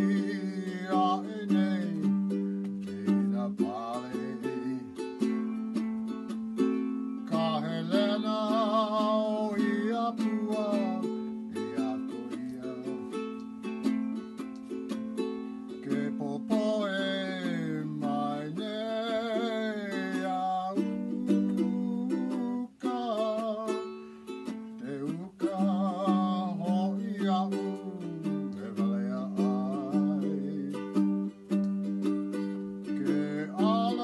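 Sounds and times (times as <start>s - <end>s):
person singing: 0.0s - 34.0s
ukulele strumming: 0.0s - 34.0s.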